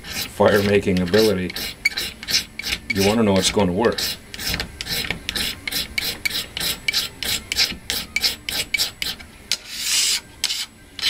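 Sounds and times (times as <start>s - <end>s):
blade scraping metal bar: 0.0s - 11.0s.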